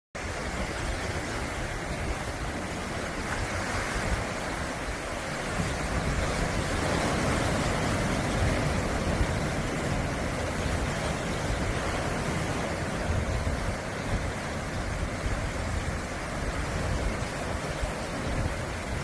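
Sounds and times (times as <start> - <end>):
sea waves washing onto shore: 0.2 - 19.0.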